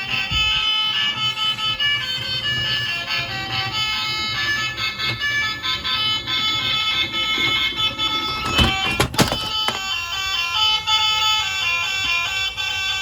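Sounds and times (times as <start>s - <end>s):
tinny electronic toy melody: 0.0s - 13.0s.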